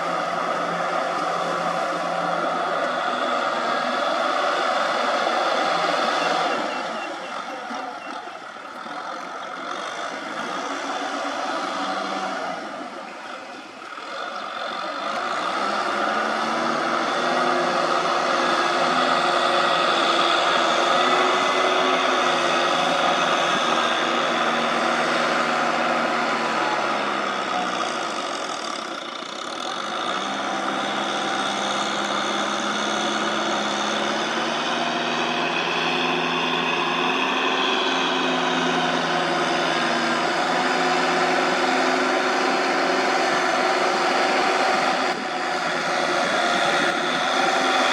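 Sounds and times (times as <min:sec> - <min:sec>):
farm machine engine running: 0:00.0 - 0:47.9.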